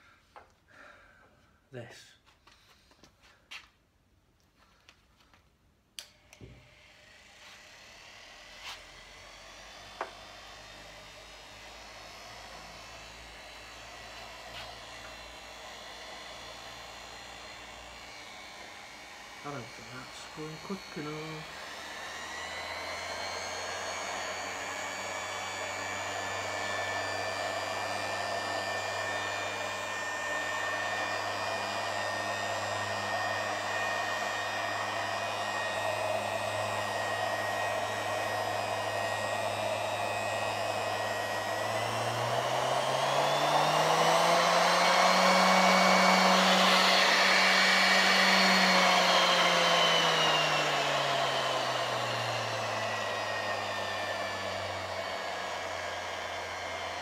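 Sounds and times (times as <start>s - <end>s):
orbital sander buffing wood: 6.1s - 57.0s.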